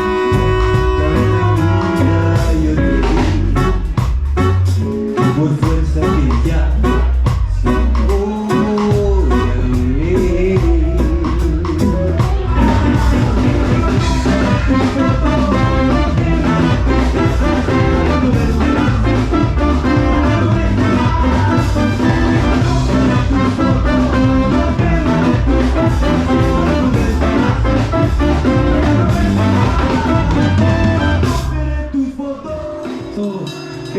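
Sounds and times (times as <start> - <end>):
horn section playing: 0.0 - 31.8
reggae band playing: 0.0 - 33.9.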